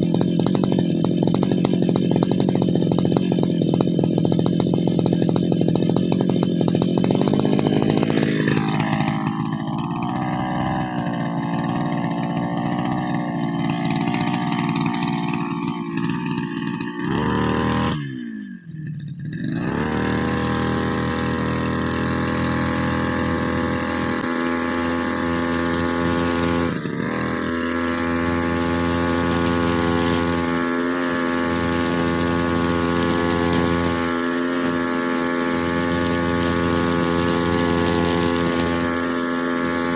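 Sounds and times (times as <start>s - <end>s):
brushcutter engine running: 0.0s - 39.9s.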